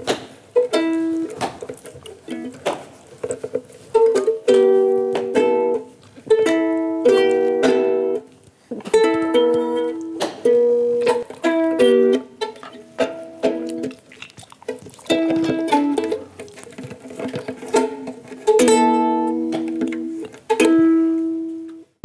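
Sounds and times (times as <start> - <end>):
ukulele strumming chords: 0.0 - 14.0, 15.1 - 22.0.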